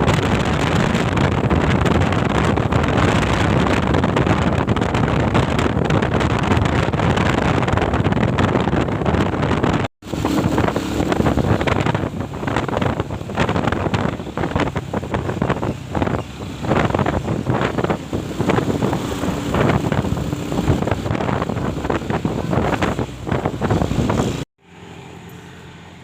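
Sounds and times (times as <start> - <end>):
steady rushing noise: 0.0 - 24.5
wind buffeting microphone: 0.0 - 24.5.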